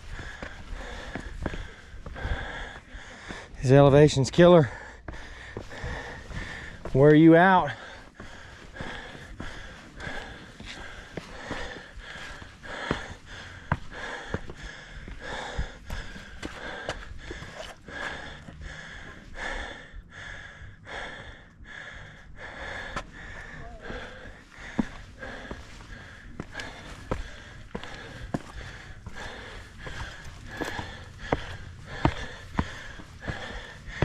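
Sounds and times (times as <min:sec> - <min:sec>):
person breathing hard: 0:00.0 - 0:34.0.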